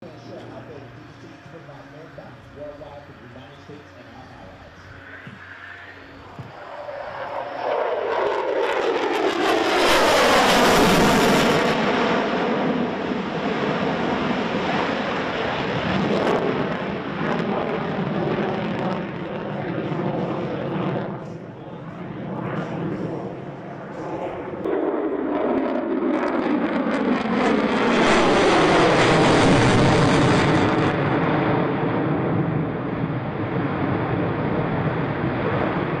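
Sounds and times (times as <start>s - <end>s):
jet engines roaring in flyby: 0.0s - 36.0s.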